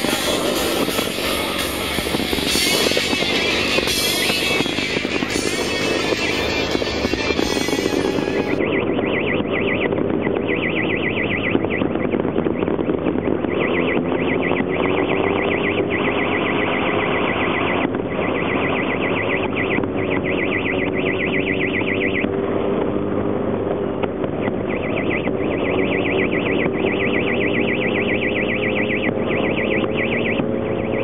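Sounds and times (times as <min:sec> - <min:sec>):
electronic alarm warbling: 0:00.0 - 0:22.7, 0:24.4 - 0:31.0.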